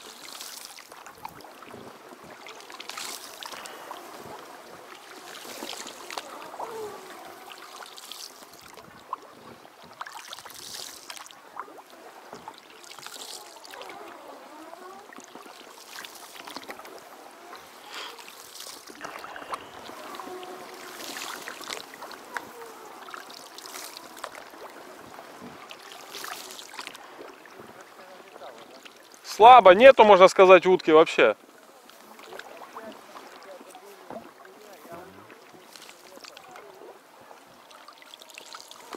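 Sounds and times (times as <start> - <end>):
oars splashing in water: 0.0 - 38.9.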